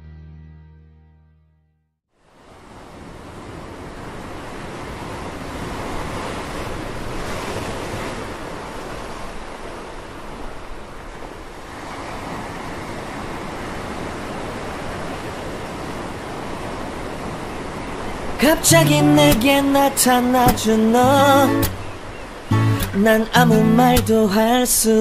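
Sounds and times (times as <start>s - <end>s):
waves breaking on shore: 2.2s - 25.0s.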